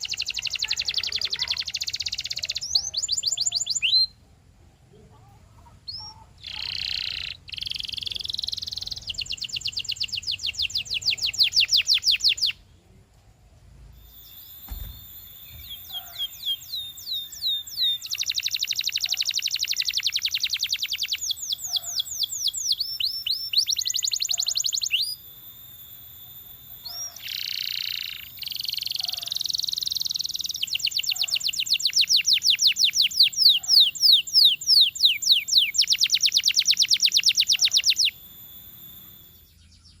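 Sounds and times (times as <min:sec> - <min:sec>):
canary singing: 0:00.0 - 0:04.2, 0:04.9 - 0:12.8, 0:13.9 - 0:40.0.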